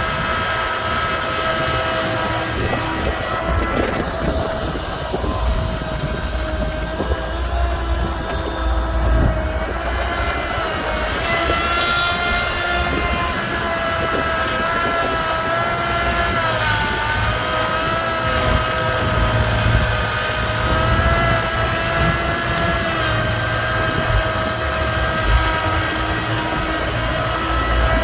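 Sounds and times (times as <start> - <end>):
excavator engine running: 0.0 - 28.0.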